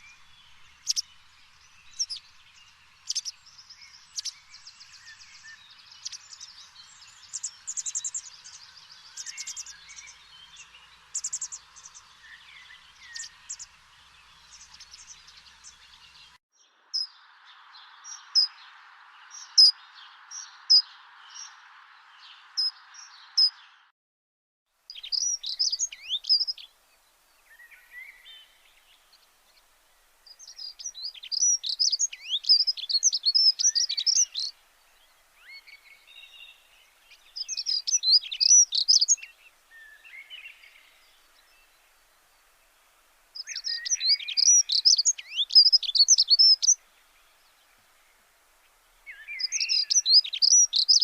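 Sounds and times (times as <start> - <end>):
steady hiss: 0.0 - 16.4, 24.8 - 50.9
small birds chirping: 0.0 - 23.9, 24.9 - 51.0.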